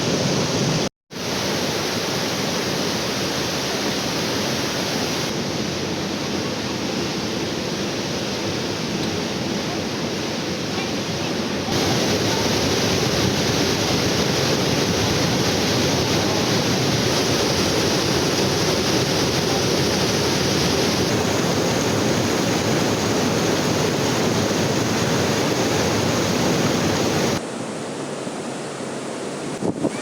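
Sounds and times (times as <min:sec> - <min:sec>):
waterfall rushing: 0:00.0 - 0:27.4.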